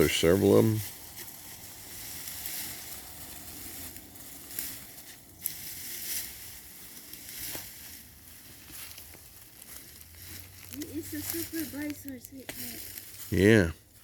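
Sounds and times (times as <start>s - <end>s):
digging through wood-chip mulch: 0.0s - 14.0s.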